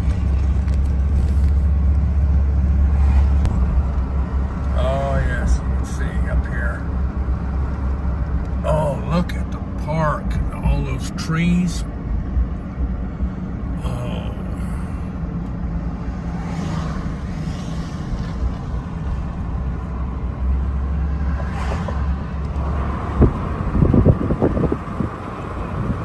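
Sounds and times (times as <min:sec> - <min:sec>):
car road noise rumble: 0:00.0 - 0:26.0
passing traffic: 0:00.0 - 0:26.0.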